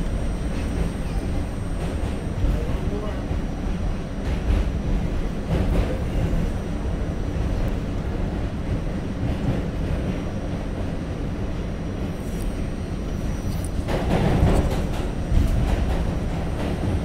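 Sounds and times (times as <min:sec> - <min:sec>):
subway train wheels rumbling: 0:00.0 - 0:17.0.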